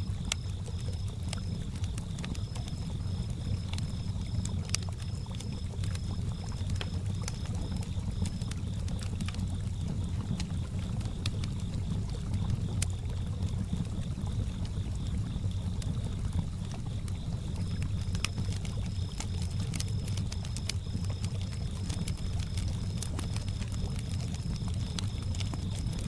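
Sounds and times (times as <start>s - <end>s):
campfire crackling and popping: 0.0s - 26.0s
crickets chirping: 0.0s - 26.0s.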